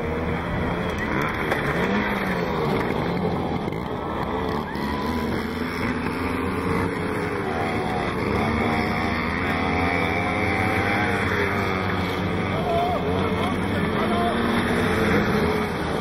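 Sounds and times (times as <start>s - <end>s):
moped engines racing: 0.0s - 16.0s.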